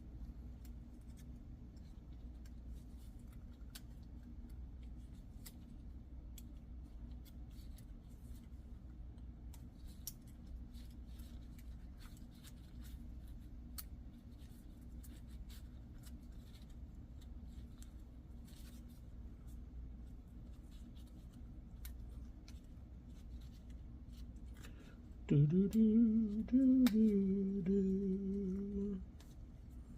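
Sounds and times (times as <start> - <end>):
faint low hum: 0.0 - 29.9.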